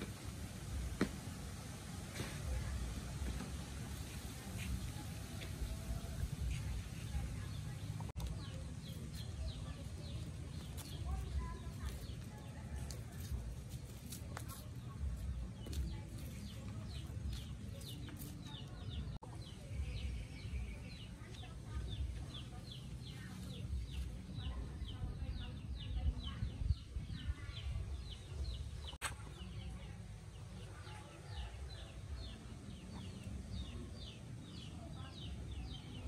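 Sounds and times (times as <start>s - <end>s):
birds chirping: 2.0s - 36.0s.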